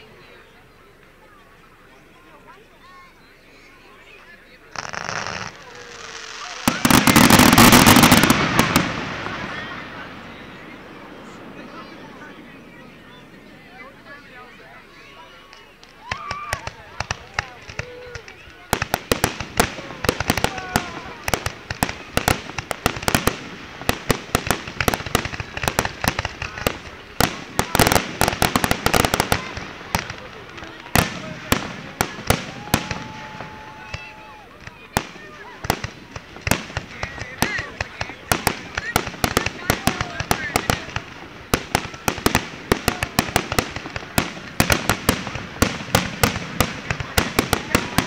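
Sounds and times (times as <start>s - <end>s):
fireworks bangs and crackles: 4.7s - 48.0s.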